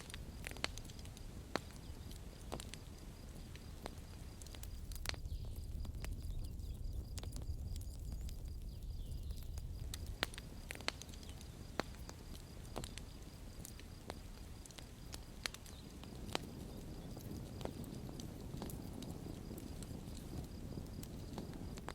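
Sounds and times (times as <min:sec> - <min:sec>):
campfire crackling and popping: 0:00.0 - 0:21.9
flames rumbling: 0:00.0 - 0:21.9.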